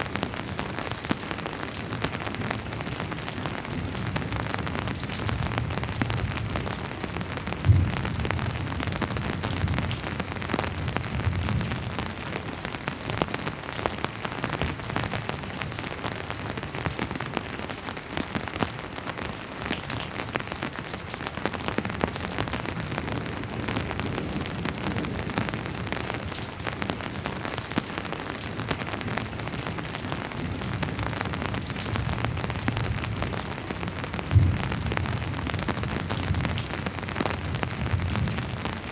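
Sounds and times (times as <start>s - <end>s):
rain on a hard surface: 0.0s - 38.9s.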